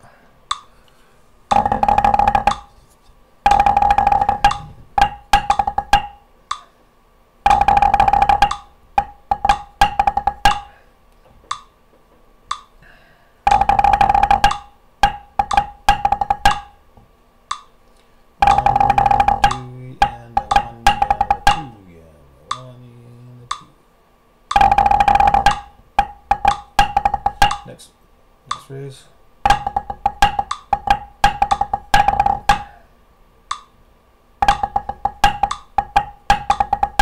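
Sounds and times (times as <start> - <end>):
drumsticks on practice pad: 0.0 - 6.8, 7.4 - 10.8, 11.4 - 12.8, 13.4 - 16.8, 17.4 - 17.8, 18.4 - 23.8, 24.5 - 27.8, 28.5 - 33.8, 34.4 - 37.0.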